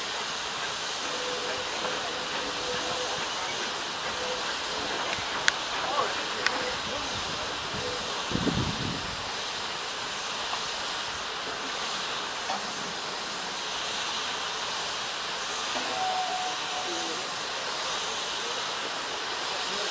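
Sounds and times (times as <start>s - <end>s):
steam hissing from locomotive: 0.0s - 19.9s.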